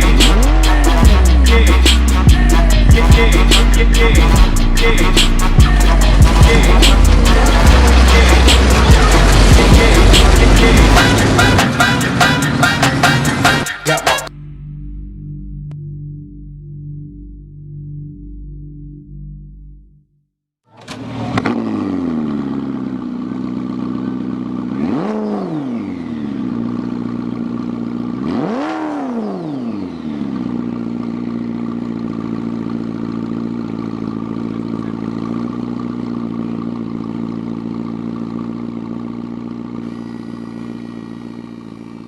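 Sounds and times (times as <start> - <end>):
car engine starting and revving: 0.0 - 13.8, 20.7 - 42.0.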